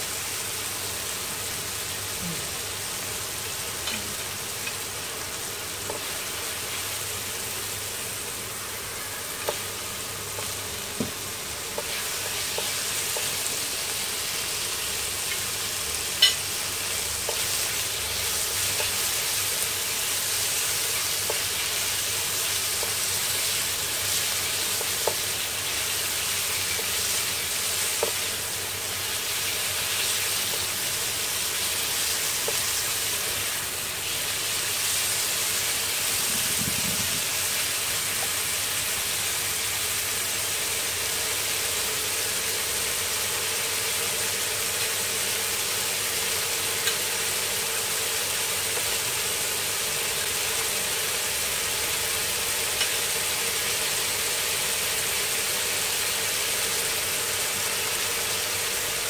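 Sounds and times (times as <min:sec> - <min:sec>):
oil sizzling in a wok: 0:00.0 - 0:59.0.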